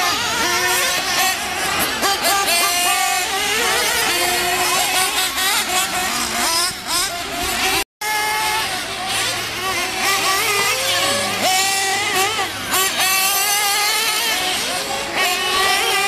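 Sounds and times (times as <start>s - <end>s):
rc car engines revving: 0.0s - 16.0s.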